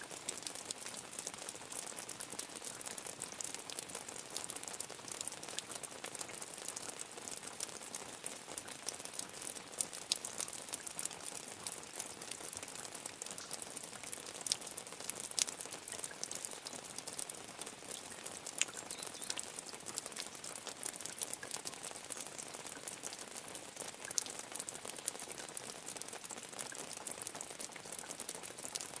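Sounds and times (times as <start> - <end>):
rain patter: 0.0 - 29.0.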